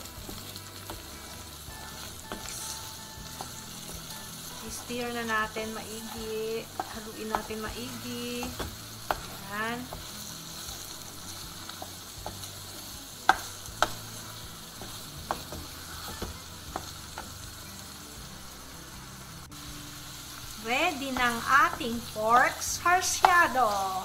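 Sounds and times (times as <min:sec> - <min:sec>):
food sizzling in frying pan: 0:00.0 - 0:24.0.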